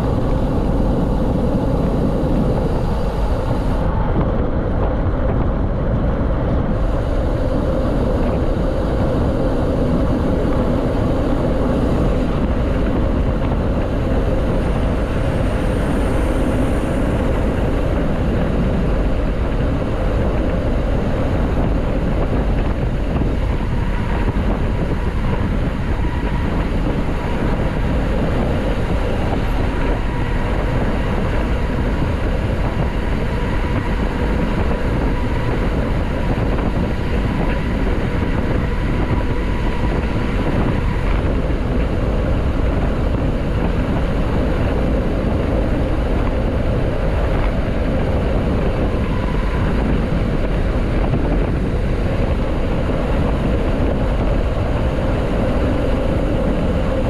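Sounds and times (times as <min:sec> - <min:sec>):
bike tyre road rumble: 0:00.0 - 0:57.0
wind buffeting microphone: 0:00.0 - 0:57.0.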